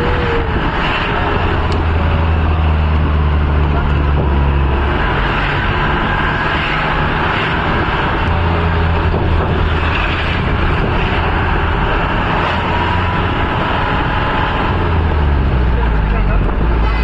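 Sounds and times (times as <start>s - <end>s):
road and wind noise: 0.0s - 17.0s
vehicle engine hum: 0.0s - 17.0s.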